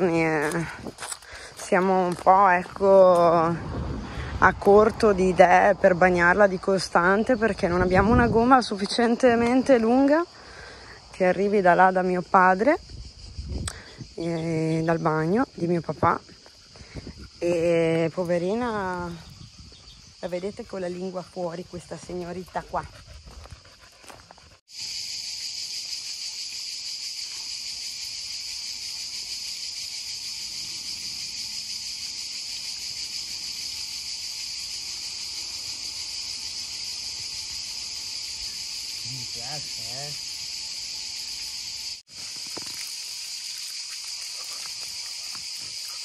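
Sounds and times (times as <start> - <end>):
cicadas buzzing: 0.0 - 46.0.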